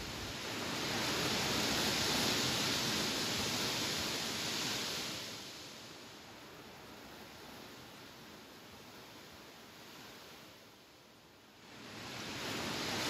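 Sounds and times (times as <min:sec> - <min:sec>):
wind rustling through tall grass: 0:00.0 - 0:13.0.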